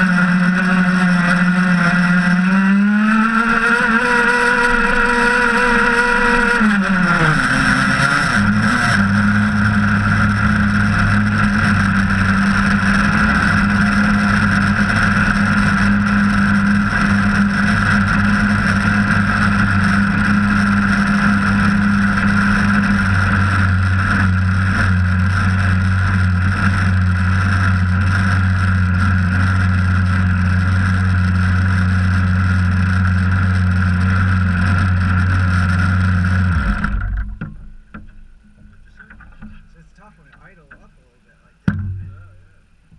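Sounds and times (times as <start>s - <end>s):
two-stroke boat engine idling: 0.0s - 42.9s.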